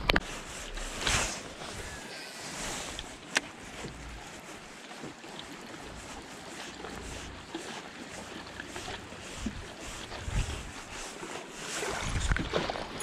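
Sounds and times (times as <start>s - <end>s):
waves lapping against boat hull: 0.0s - 13.0s.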